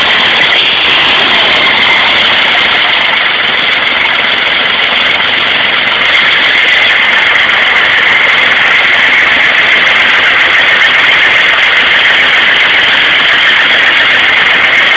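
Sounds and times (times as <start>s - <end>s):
engine running steadily: 0.0s - 14.9s.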